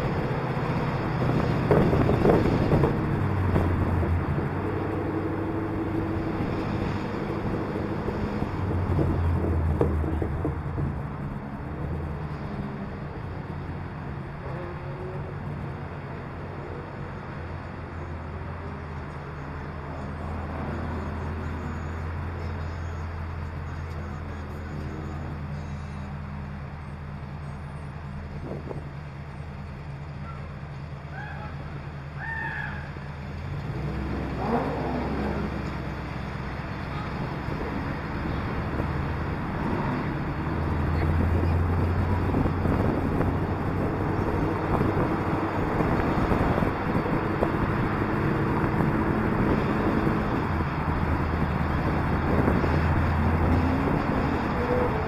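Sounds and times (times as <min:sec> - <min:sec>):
car engine idling and pulling away: 0:00.0 - 0:55.0
road and traffic noise: 0:00.0 - 0:55.0.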